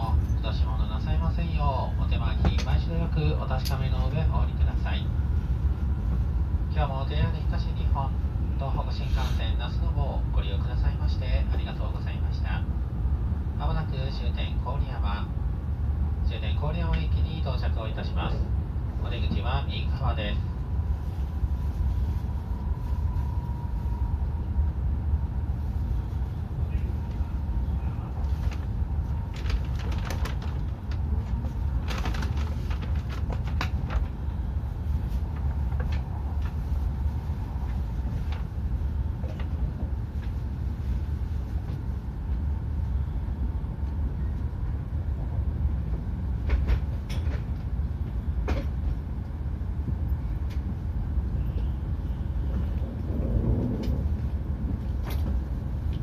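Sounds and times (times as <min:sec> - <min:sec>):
train cabin low rumble: 0:00.0 - 0:56.0.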